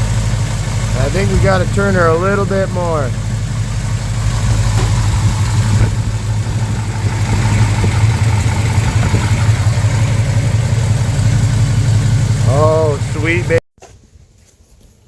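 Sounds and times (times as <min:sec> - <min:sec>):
car engine idling: 0:00.0 - 0:13.6.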